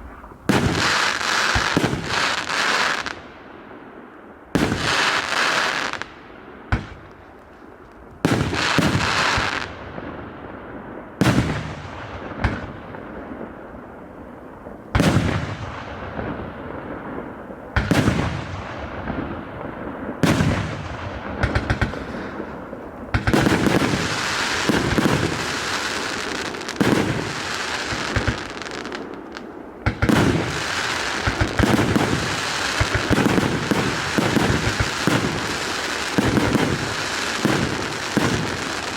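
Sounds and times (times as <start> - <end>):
fireworks shots with hiss: 0.0 - 3.2, 4.6 - 7.1, 8.2 - 9.8, 15.0 - 38.9.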